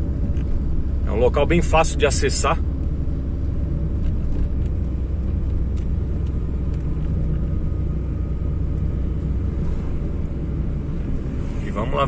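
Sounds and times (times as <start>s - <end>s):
car road noise rumble: 0.0s - 12.0s.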